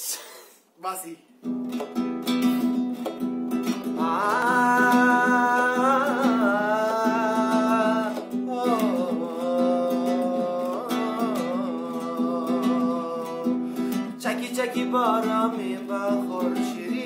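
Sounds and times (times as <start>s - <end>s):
strummed classical guitar: 1.4s - 17.0s.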